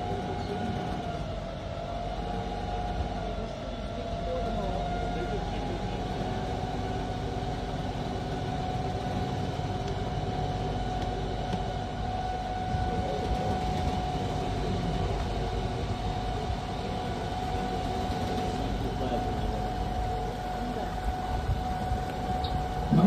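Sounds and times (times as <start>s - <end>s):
boat motor whining and rumbling: 0.0s - 23.0s.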